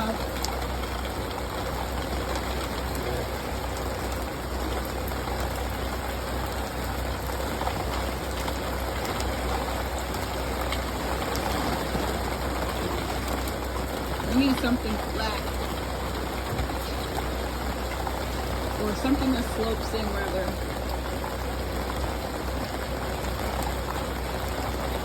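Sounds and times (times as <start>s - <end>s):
steady rain falling: 0.0s - 25.0s
water running off awning: 0.0s - 25.0s.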